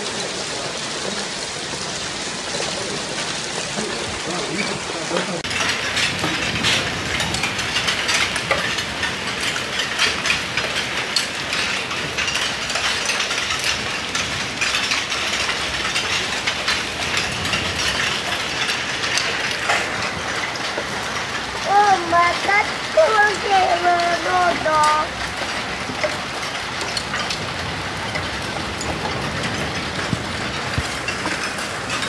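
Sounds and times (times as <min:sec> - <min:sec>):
hailstones rattling: 0:00.0 - 0:32.0
heavy rain hissing: 0:00.0 - 0:32.0.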